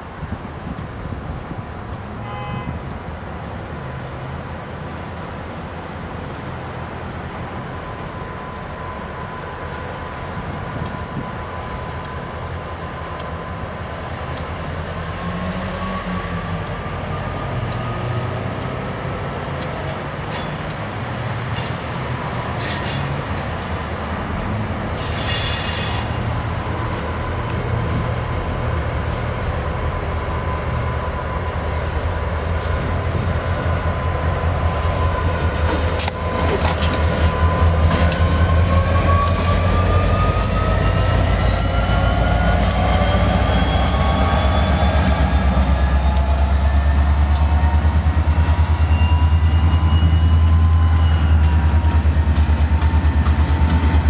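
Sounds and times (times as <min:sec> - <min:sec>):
train wheel squeals: 0:03.4 - 0:54.0
diesel locomotive engine running: 0:04.2 - 0:54.0.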